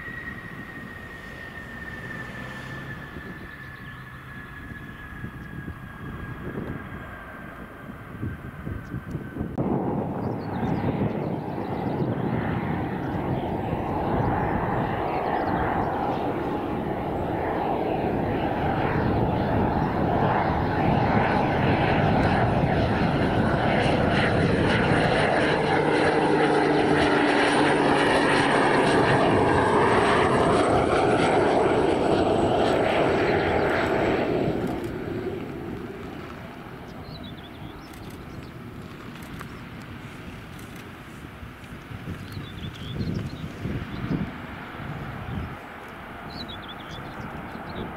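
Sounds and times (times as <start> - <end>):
turboprop engine and propeller drone: 0.0 - 47.9.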